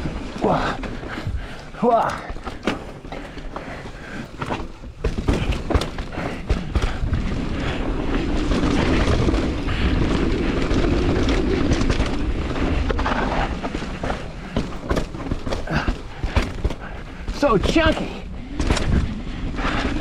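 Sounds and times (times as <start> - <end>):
bike rattling: 0.0 - 20.0
bike tyres rumbling over rocks: 0.0 - 20.0.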